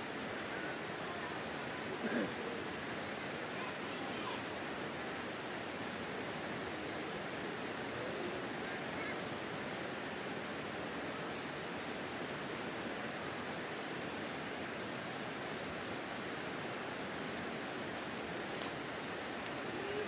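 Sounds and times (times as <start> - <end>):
campfire burning: 0.1 - 20.0
fire crackles: 2.7 - 20.0.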